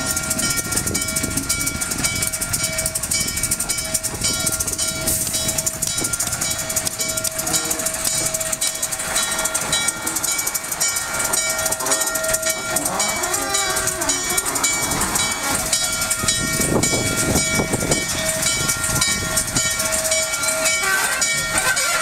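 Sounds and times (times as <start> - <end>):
steam locomotive bell ringing: 0.0 - 22.0
steam locomotive rumble: 0.0 - 22.0.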